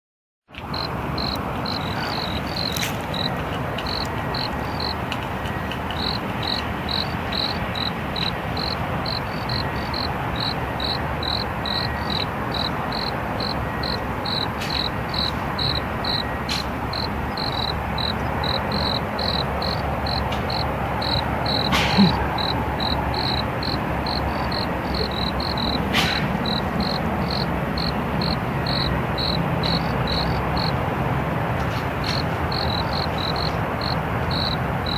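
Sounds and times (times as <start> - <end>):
cricket chirping: 0.7 - 30.8, 32.0 - 34.9.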